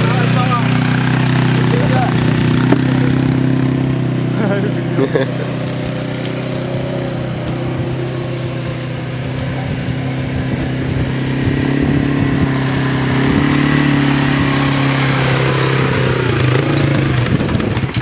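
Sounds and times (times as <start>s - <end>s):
personal watercraft engine running: 0.0s - 18.0s.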